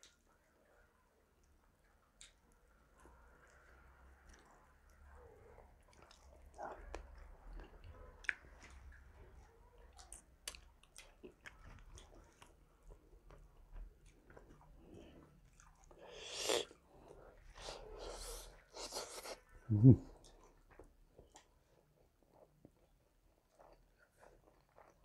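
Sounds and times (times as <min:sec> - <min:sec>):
person chewing food: 0:02.1 - 0:25.0.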